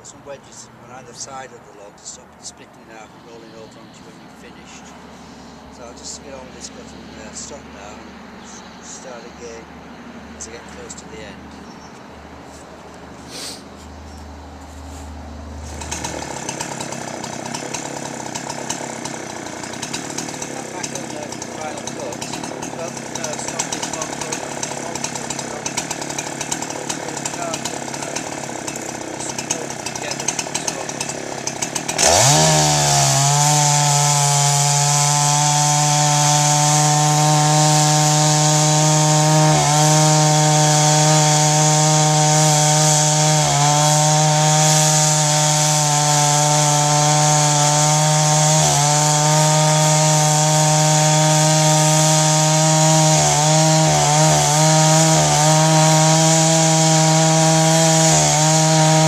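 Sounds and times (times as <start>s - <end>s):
chainsaw cutting through log: 0.0s - 11.6s, 12.5s - 59.0s.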